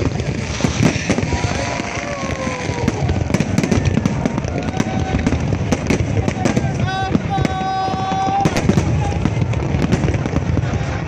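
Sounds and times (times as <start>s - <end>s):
fireworks crackles and pops: 0.0s - 11.0s
low firework thuds: 0.0s - 11.0s.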